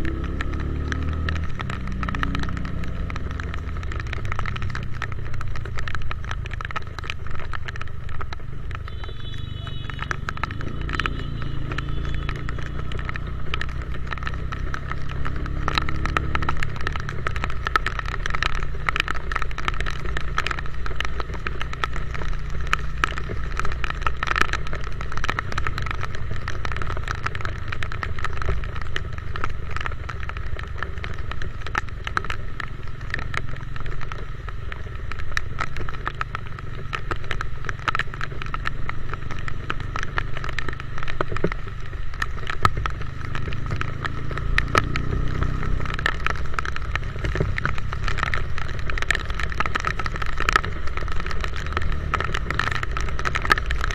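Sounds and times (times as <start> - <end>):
motorcycle engine rumble: 0.0 - 53.9
rain ticks: 0.0 - 53.9.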